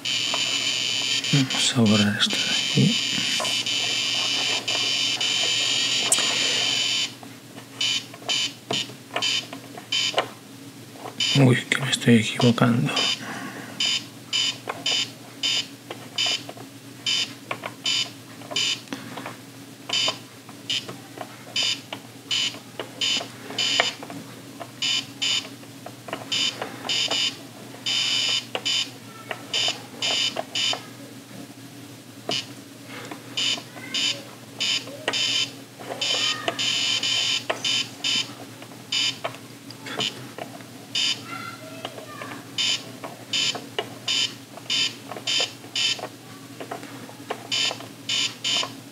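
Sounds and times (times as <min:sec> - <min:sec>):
steady low hum: 0:00.0 - 0:41.2.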